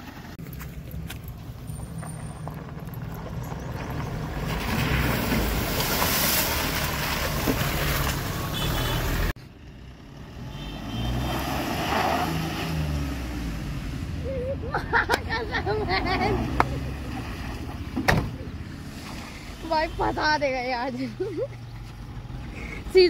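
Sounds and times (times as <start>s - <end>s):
vehicle driving over rough ground: 0.0s - 14.2s, 14.9s - 23.0s.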